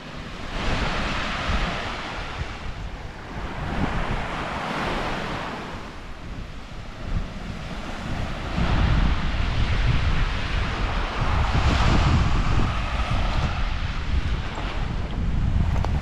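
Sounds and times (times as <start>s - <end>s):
small waves breaking: 0.0s - 16.0s
wind buffeting microphone: 0.0s - 16.0s.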